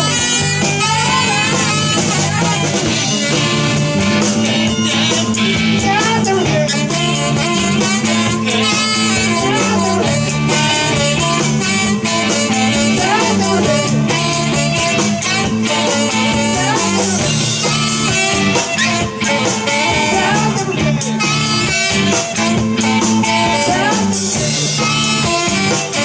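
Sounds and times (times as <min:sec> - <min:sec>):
drums: 0:00.0 - 0:26.0
electric guitar: 0:00.0 - 0:26.0
saxophones: 0:00.0 - 0:26.0.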